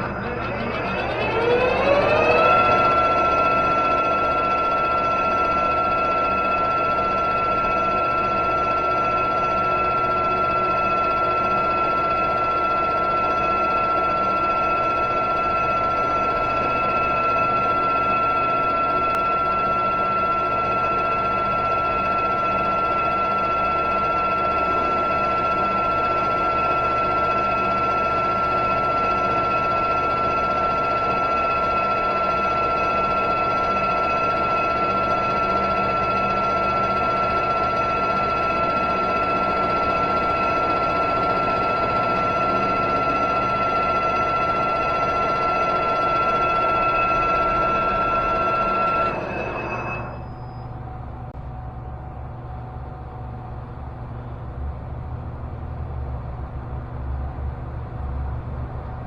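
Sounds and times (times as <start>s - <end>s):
metal lathe high whine: 0.0s - 55.4s.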